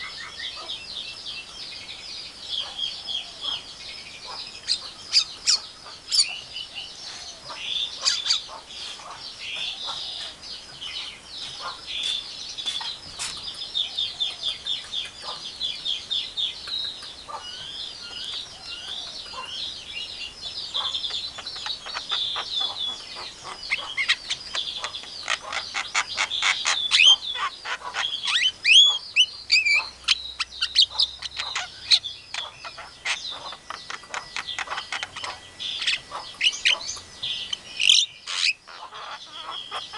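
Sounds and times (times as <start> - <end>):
myna bird chattering: 0.0 - 39.9.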